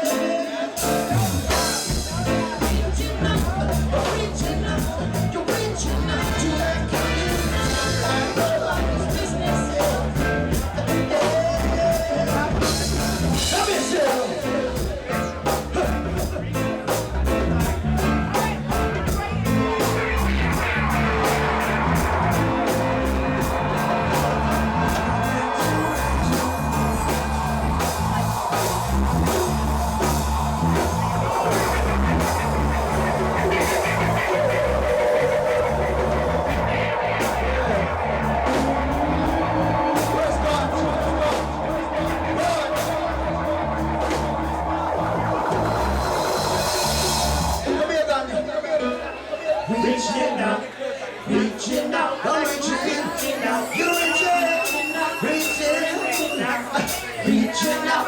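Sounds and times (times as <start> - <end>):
reggae band playing: 0.0 - 58.0
strong bass line: 0.8 - 48.0.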